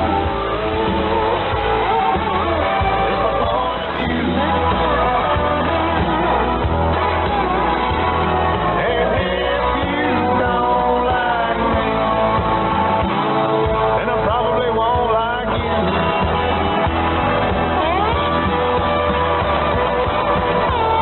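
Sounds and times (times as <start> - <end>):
country-rock song over radio: 0.0 - 21.0.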